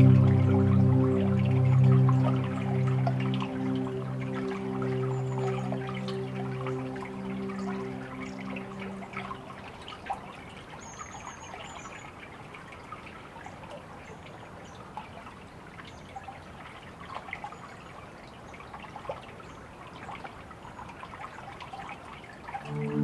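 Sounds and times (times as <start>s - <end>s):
small water drips: 0.0s - 23.0s
water trickling: 0.0s - 23.0s.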